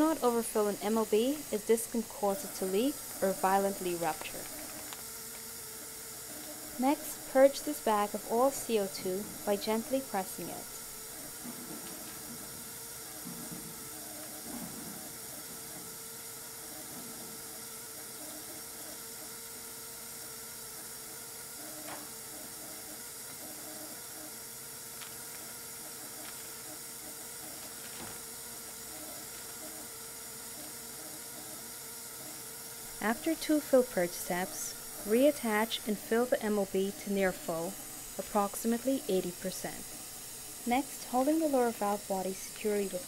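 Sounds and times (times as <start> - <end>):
gas venting hiss: 0.0 - 43.0.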